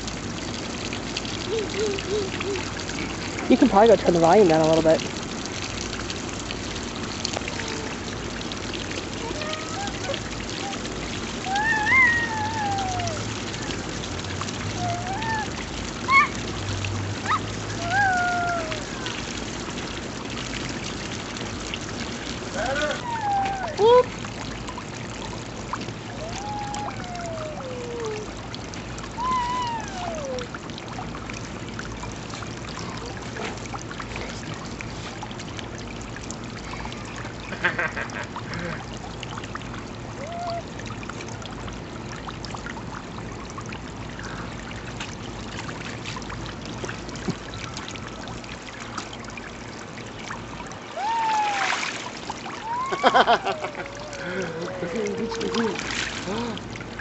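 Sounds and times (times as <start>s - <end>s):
hose water spraying into pool: 0.0s - 57.0s.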